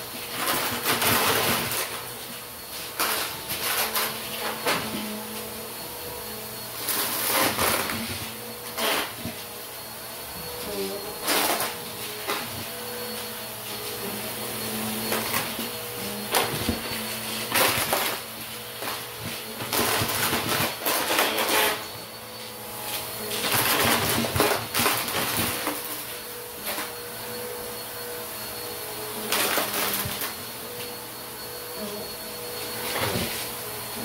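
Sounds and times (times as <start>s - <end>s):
vacuum cleaner motor hum: 0.0s - 34.0s.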